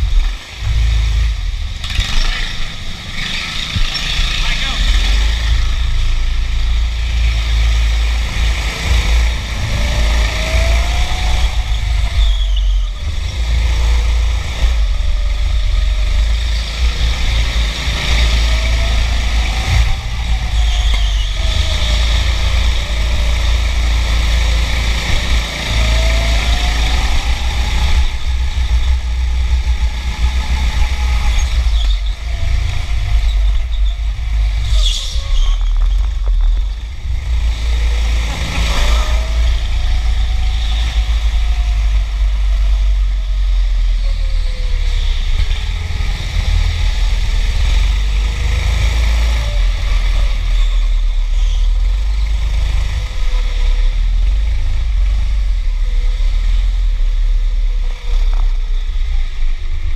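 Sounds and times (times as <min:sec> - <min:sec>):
go-kart motor accelerating: 0:00.0 - 0:59.9.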